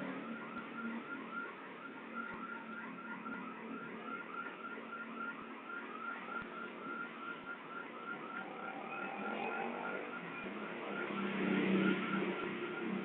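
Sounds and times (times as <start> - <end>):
electronic siren chirps: 0.0 - 13.0.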